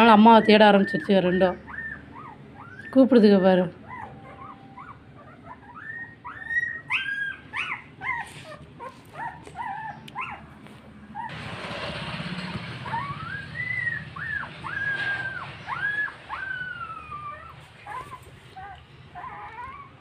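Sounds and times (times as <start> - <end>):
puppies whimpering and crying: 0.0 - 11.6, 12.4 - 20.0.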